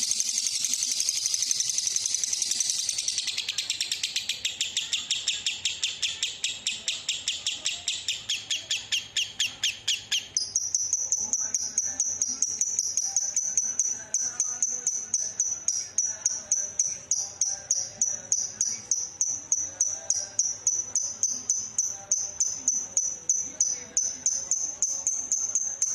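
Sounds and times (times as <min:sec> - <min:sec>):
lovebird chattering song: 0:00.0 - 0:25.9.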